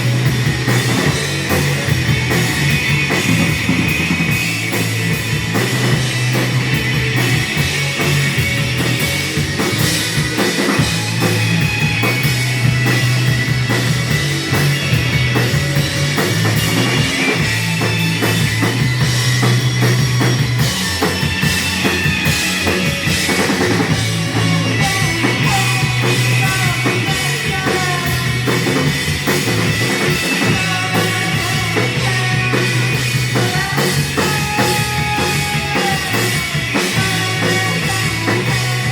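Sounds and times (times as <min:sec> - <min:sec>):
rock music with drums bass guitar: 0:00.0 - 0:38.9.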